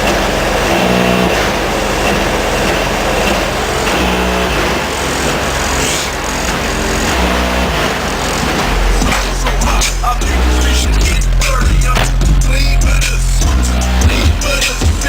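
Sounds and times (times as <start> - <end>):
bass-heavy music through subwoofers: 0.0 - 15.0.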